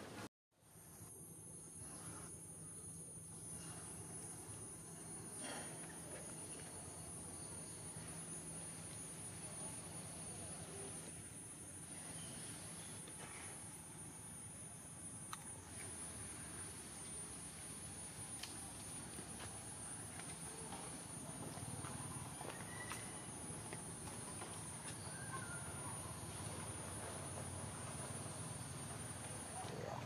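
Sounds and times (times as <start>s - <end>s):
insects droning: 0.6s - 30.0s.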